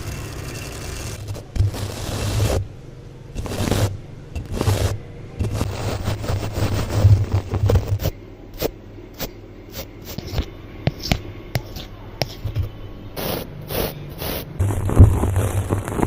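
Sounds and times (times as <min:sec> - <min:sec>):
object scraping and scratching: 0:00.8 - 0:02.6, 0:03.4 - 0:08.7, 0:09.7 - 0:16.0.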